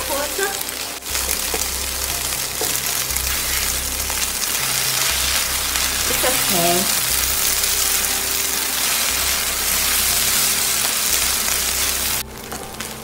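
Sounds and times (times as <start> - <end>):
food sizzling in a pan: 0.0 - 13.0
spatula turning noodles: 0.0 - 13.0.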